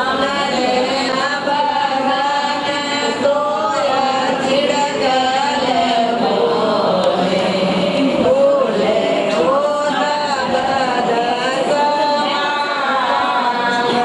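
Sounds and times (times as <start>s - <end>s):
voices singing chant-like melody: 0.0s - 14.0s.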